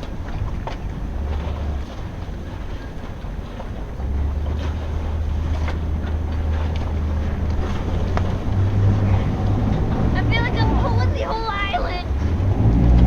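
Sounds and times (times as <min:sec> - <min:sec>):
boats clicking and knocking: 0:00.0 - 0:13.0
strong wind buffeting microphone: 0:00.0 - 0:13.0.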